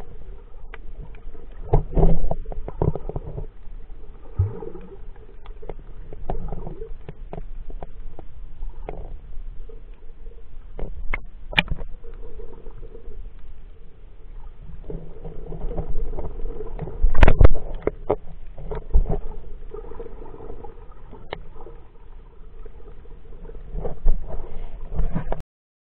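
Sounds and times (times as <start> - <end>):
faint steady hum: 0.0 - 25.3
low underwater rumble: 0.0 - 25.4.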